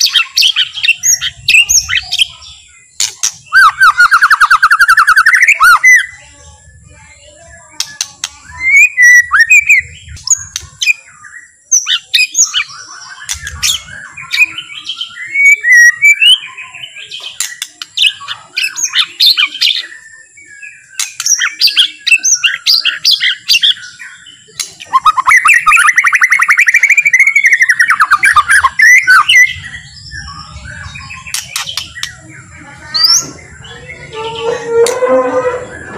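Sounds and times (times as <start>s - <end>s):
songbird whistling and chattering: 0.0s - 35.9s.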